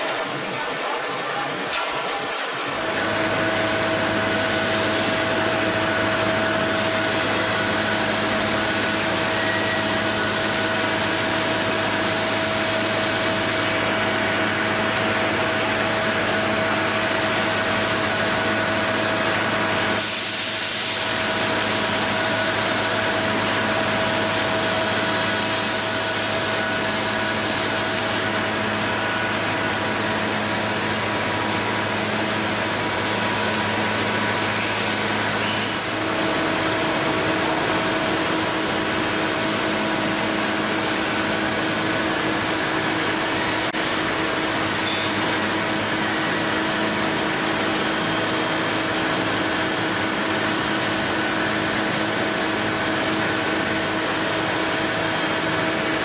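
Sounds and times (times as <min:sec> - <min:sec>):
machinery hum and hiss: 0:00.0 - 0:56.0.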